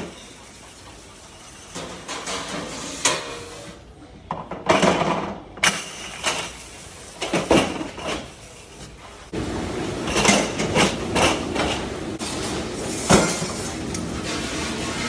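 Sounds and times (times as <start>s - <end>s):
dishware and metal racks clattering: 0.0s - 9.3s, 10.0s - 15.0s.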